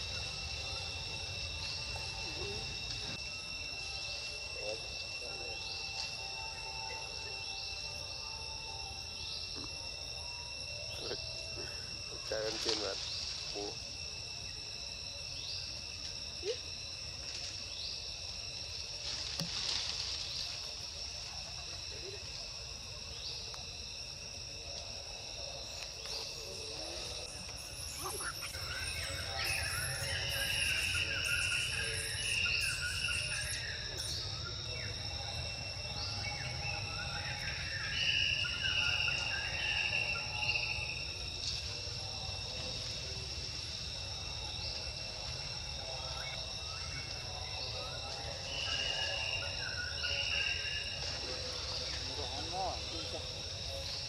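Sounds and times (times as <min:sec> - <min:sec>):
high-pitched insect chirring: 0:00.0 - 0:54.0.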